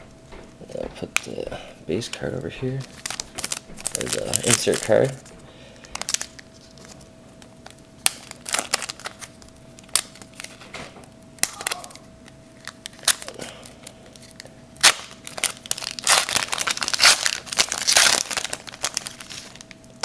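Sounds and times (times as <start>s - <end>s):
foil wrapper crinkling: 2.0s - 10.7s, 11.4s - 20.0s.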